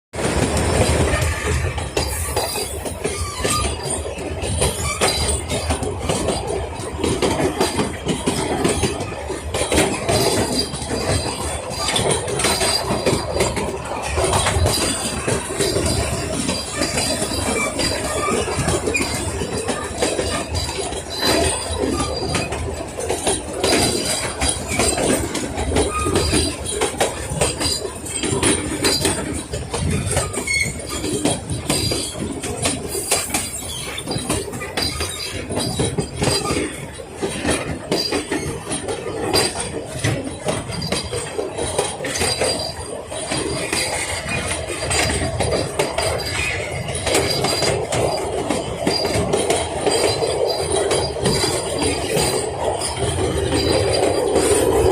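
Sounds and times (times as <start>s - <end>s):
train carriages rolling: 0.2s - 54.9s
wheels clicking over rail joints: 0.2s - 54.9s.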